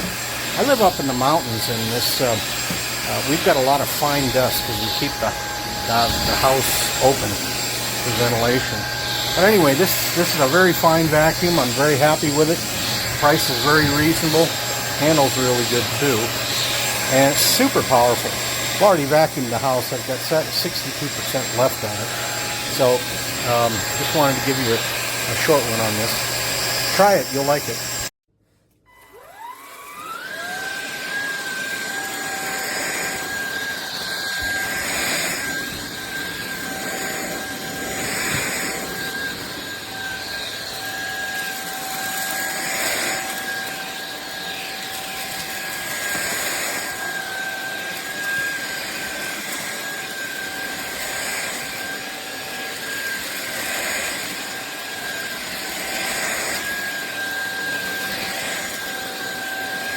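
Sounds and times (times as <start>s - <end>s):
stick vacuum motor whine: 0.0s - 28.1s, 28.9s - 59.9s.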